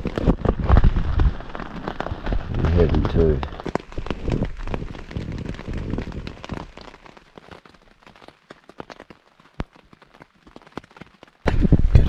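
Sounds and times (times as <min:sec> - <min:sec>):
heavy rain: 0:00.0 - 0:12.0
scattered water drips: 0:00.0 - 0:12.0.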